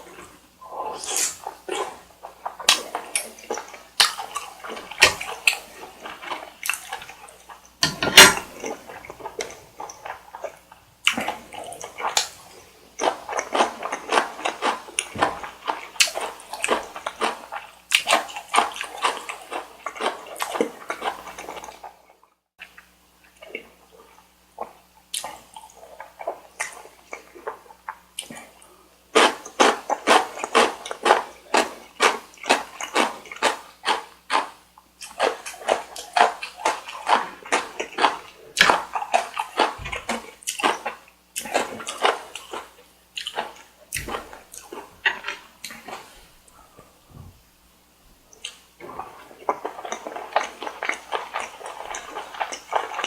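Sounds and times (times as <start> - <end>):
wet chewing and mouth smacks: 1.0 - 22.0, 24.6 - 28.6, 29.2 - 46.9, 48.3 - 53.0.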